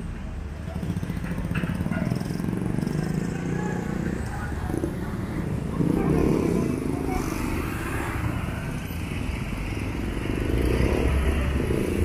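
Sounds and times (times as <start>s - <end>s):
street traffic rumble: 0.0s - 12.0s
motorcycle riding past: 0.8s - 12.0s.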